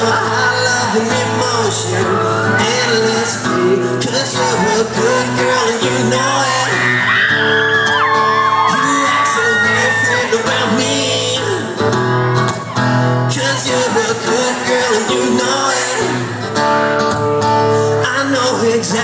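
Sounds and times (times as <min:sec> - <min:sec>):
man singing: 0:00.0 - 0:12.4, 0:13.0 - 0:19.0
crowd whooping and screaming: 0:00.0 - 0:17.2
acoustic guitar strumming: 0:00.0 - 0:19.0.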